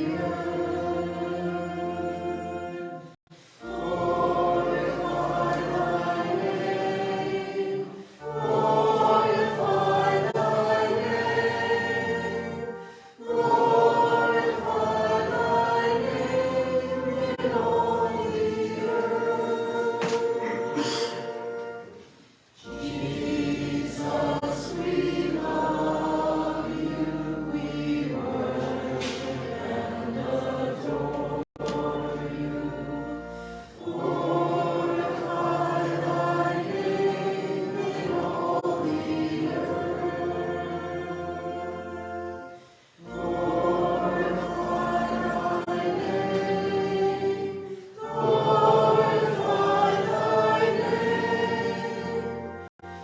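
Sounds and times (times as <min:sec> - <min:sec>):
congregation singing: 0:00.0 - 0:53.0
instrumental accompaniment: 0:00.0 - 0:53.0.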